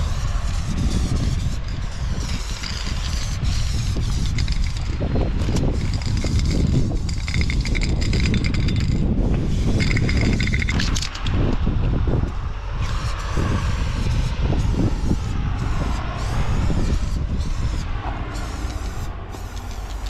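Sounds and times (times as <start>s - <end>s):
low rumble: 0.0s - 20.0s
spray paint can hissing: 0.0s - 20.0s.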